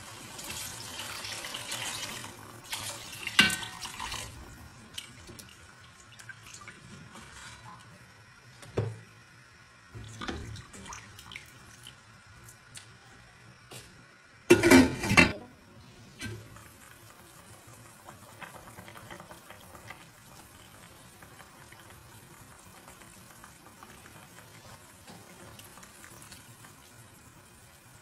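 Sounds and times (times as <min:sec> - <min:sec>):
broth boiling in a pot: 0:00.0 - 0:28.0.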